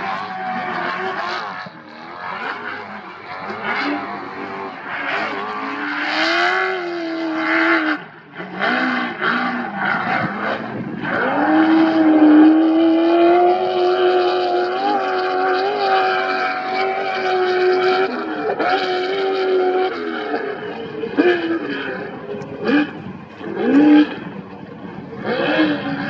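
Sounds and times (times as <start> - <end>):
race vehicle engine revving: 0.0 - 26.0.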